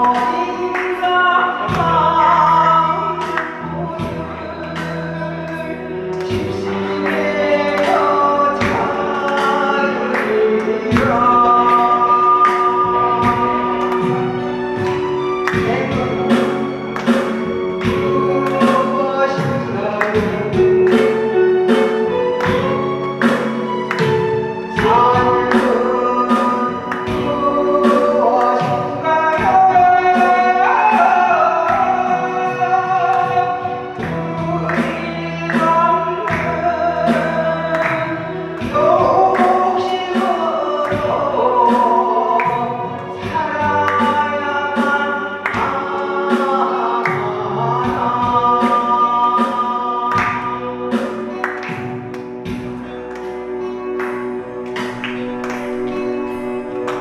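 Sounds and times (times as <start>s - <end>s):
backing track with steady beat: 0.0s - 57.0s.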